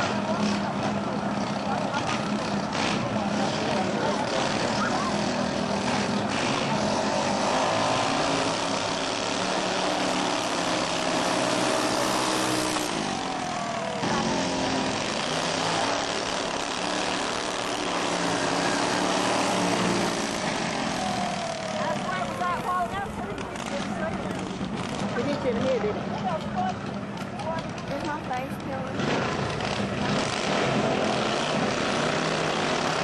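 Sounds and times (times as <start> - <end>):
lawn mower engine revving high: 0.0 - 33.0.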